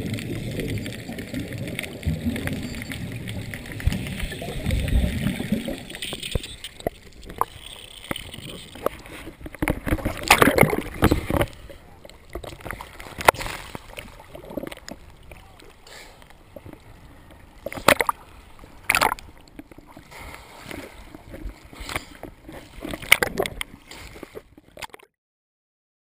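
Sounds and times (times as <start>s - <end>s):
sea water sloshing and splashing: 0.0s - 25.1s.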